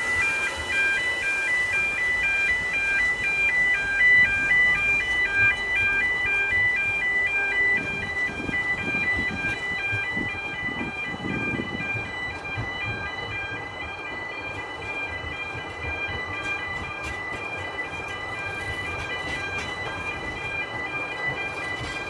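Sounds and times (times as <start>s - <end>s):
railway carriages rumbling: 0.0s - 22.0s
two-tone level crossing alarm: 0.0s - 22.0s.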